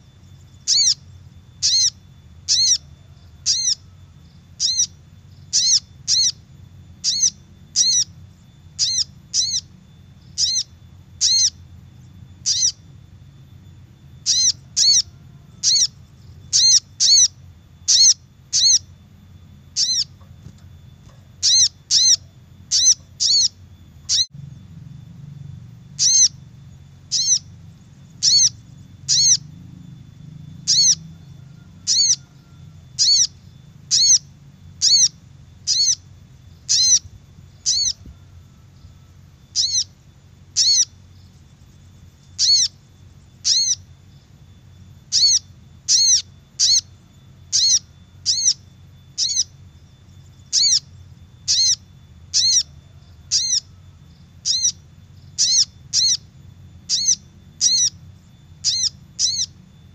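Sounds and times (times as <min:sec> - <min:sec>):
bird chip calls: 0:00.0 - 0:24.4, 0:25.8 - 0:59.9.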